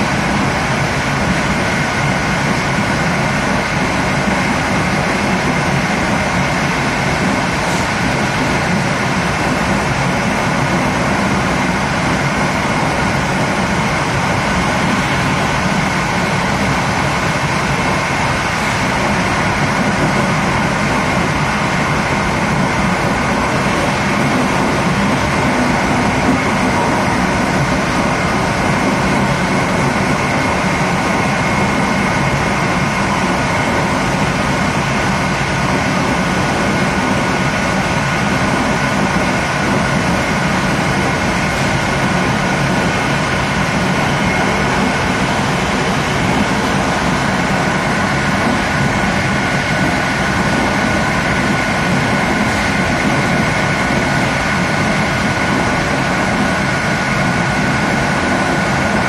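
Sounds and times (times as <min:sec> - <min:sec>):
rushing air: 0:00.0 - 0:59.0
train wheels rolling on rails: 0:00.0 - 0:59.0.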